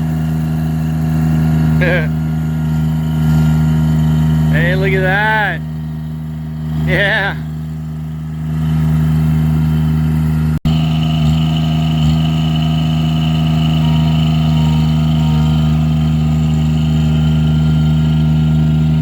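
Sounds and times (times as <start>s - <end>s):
backhoe engine running: 0.0s - 19.0s.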